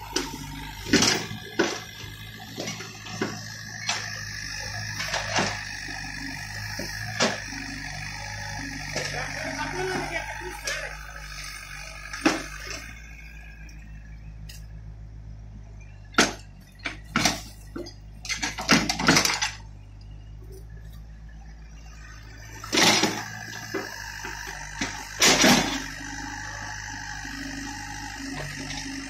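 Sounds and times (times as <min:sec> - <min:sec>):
diesel engine humming: 0:00.0 - 0:29.0.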